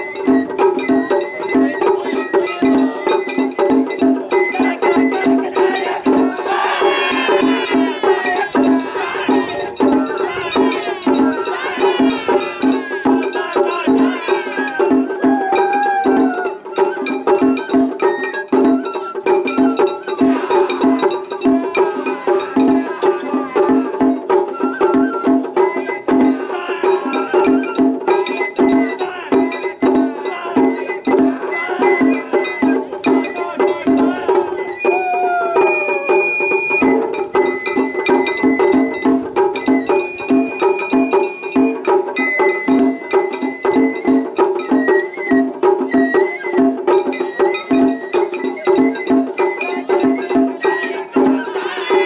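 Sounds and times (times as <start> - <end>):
bamboo flute playing high notes: 0.0 - 52.0
taiko drums beating: 0.0 - 52.0.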